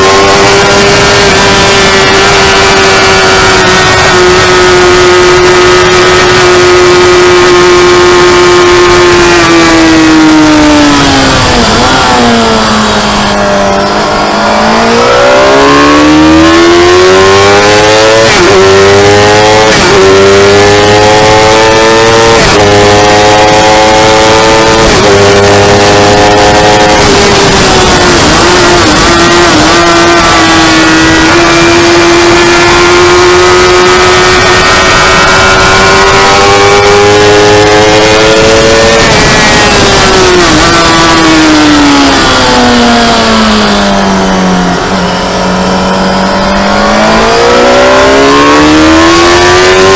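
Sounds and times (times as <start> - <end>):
wind noise: 0.0 - 43.9
motorcycle engine revving: 0.0 - 49.9.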